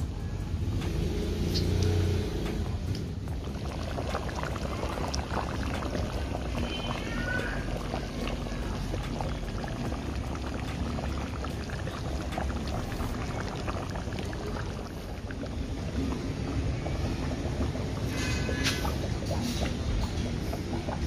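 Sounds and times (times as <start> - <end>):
curry bubbling in a wok: 0.0 - 21.0.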